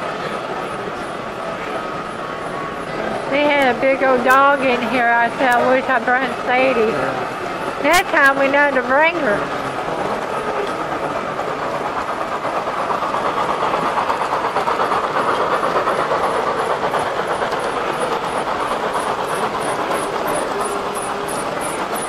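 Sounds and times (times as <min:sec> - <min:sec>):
model train rumbling whir: 0:00.0 - 0:22.0
wheels clicking over rail joints: 0:02.8 - 0:22.0.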